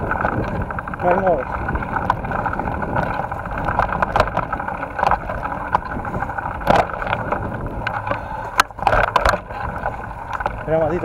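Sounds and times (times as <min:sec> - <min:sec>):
bike knocking and rattling: 0:00.0 - 0:11.0
wind and tyre noise: 0:00.0 - 0:11.0.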